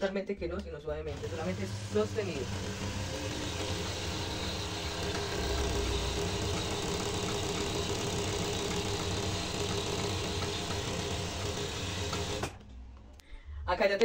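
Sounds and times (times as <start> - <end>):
sewing machine running: 1.0 - 12.6.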